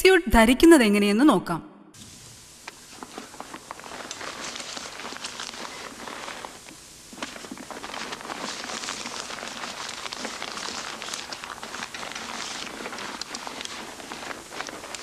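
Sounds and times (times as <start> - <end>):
crackling and rustling with clicks: 2.0 - 15.0.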